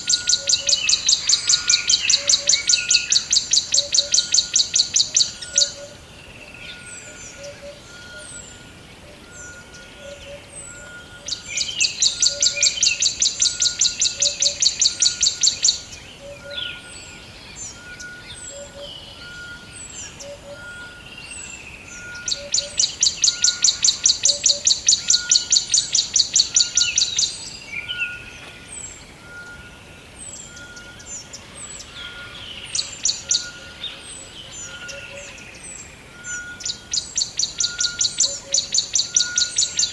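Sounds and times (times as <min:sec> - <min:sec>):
loud rapid bird trill: 0:00.0 - 0:06.0, 0:09.4 - 0:39.9
low repeating bird call: 0:00.0 - 0:39.9
songbirds chirping: 0:00.0 - 0:39.9.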